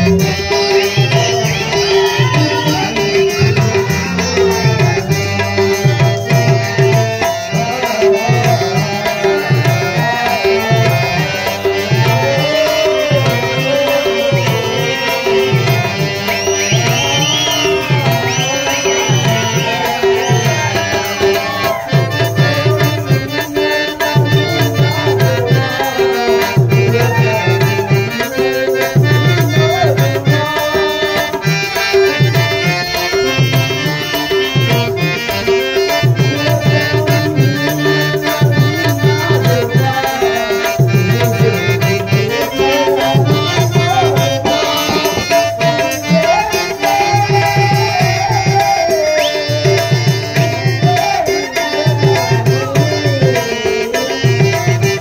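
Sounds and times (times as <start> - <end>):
dance music with tabla drums: 0.0 - 55.0.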